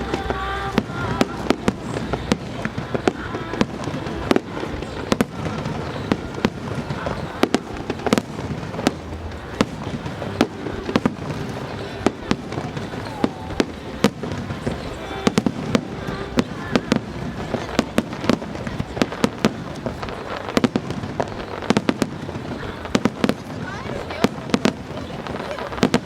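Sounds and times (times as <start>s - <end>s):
fireworks bursting: 0.0s - 26.0s
fireworks crackle: 0.0s - 26.0s.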